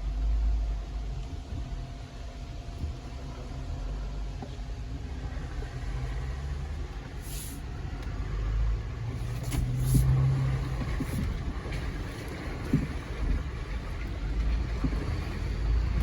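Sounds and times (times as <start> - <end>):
engine droning inside cab: 0.0 - 16.0.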